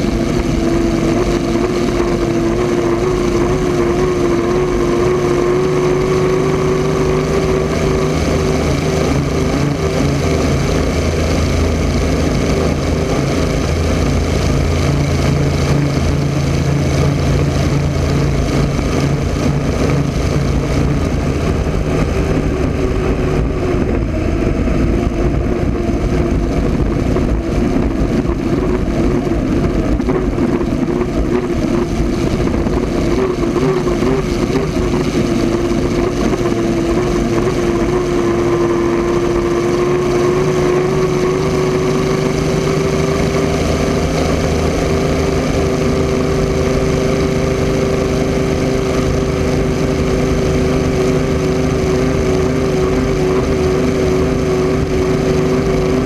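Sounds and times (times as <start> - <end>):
piston engine running hard: 0.0 - 56.0
rushing water: 0.0 - 56.0
wind: 0.0 - 56.0.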